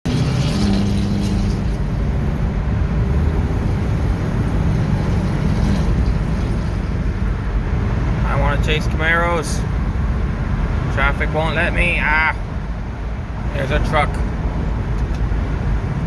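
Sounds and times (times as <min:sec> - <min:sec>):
held engine tone: 0:00.0 - 0:14.4
car engine and road rumble: 0:00.0 - 0:16.0.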